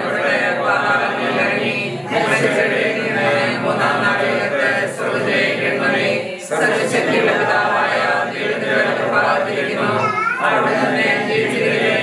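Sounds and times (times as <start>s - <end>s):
group chanting a prayer: 0.0s - 12.0s.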